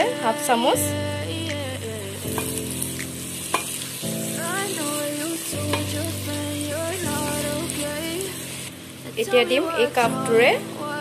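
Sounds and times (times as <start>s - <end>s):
food sizzling in oil: 0.0s - 11.0s
soft background music: 0.0s - 11.0s.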